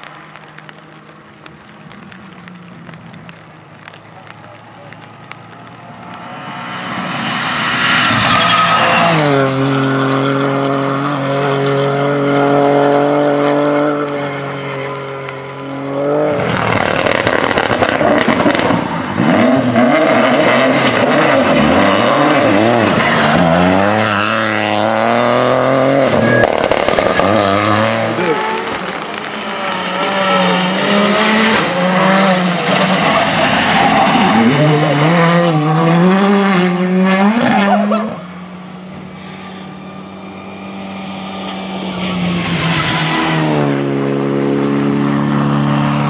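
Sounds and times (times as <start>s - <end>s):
rally car engine revving: 3.8s - 46.0s.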